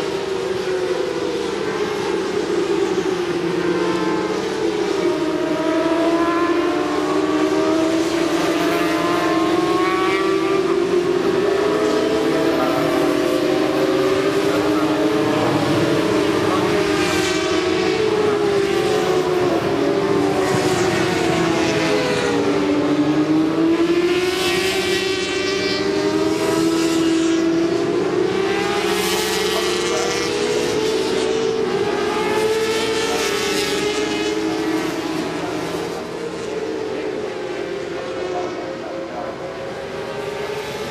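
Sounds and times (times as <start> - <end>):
racing motorcycles at high revs: 0.0 - 40.9
motorcycle passing by: 3.9 - 37.4.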